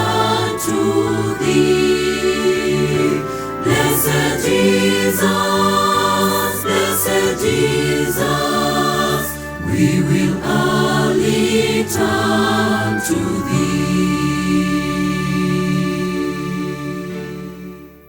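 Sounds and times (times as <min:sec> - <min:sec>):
choir singing a hymn: 0:00.0 - 0:17.9.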